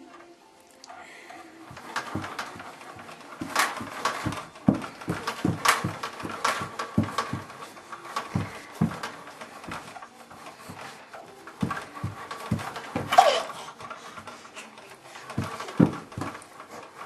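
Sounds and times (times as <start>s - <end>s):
baby bouncer thumps and creaks: 1.3s - 17.0s.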